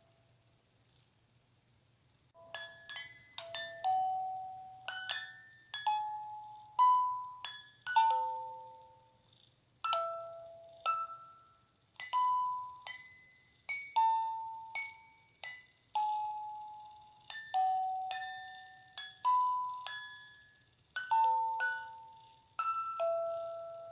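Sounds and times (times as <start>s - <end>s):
bell-like chime lullaby melody: 2.4s - 9.2s, 9.8s - 23.9s.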